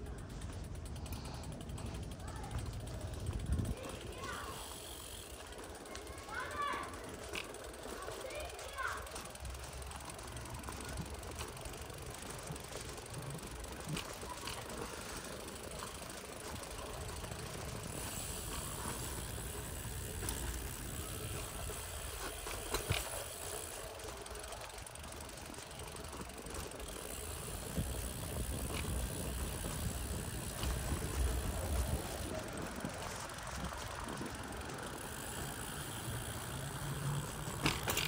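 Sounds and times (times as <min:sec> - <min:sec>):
bicycle rolling on concrete: 0:00.0 - 0:38.0.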